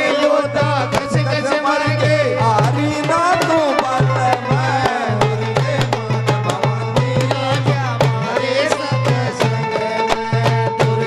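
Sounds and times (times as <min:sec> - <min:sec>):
hand drum beating: 0:00.0 - 0:11.0
man singing: 0:00.0 - 0:11.0.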